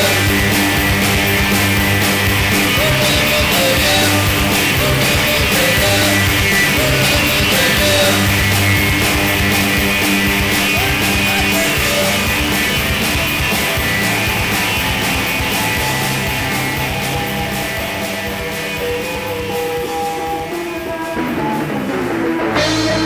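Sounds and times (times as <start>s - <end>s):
drums steady beat: 0.0s - 23.0s
rock band music: 0.0s - 23.0s
sustained bass notes: 0.0s - 23.0s.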